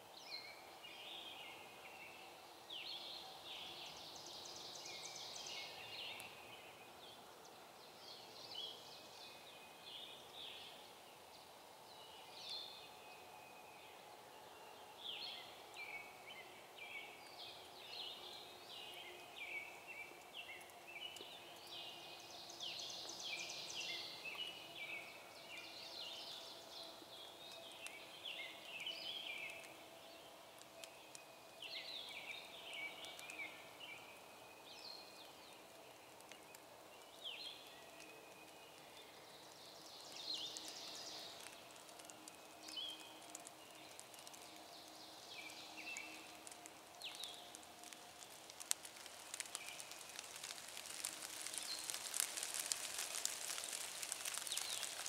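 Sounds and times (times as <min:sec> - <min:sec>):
songbirds chirping and trilling: 0:00.1 - 0:55.0.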